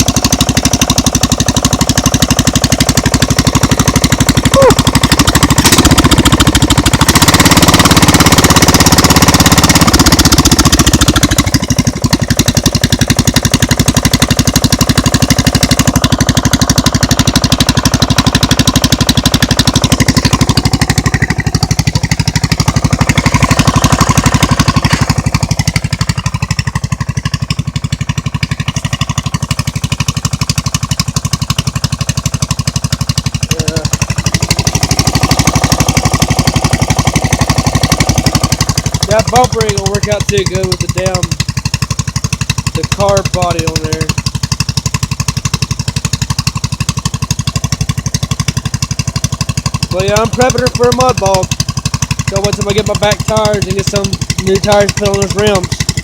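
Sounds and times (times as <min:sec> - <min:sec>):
loud motorcycle engine running: 0:00.0 - 0:56.0.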